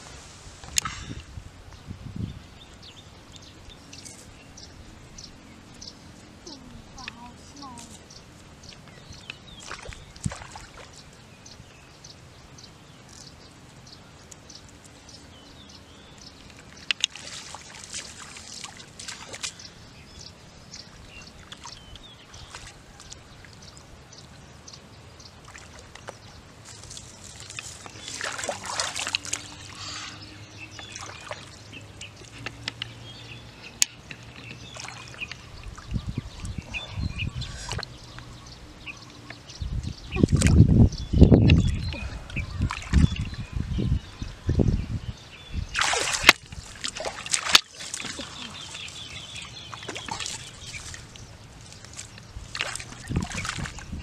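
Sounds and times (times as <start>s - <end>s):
pond water sloshing and splashing: 5.9s - 39.5s, 40.1s - 40.7s, 41.4s - 43.5s, 45.6s - 54.0s.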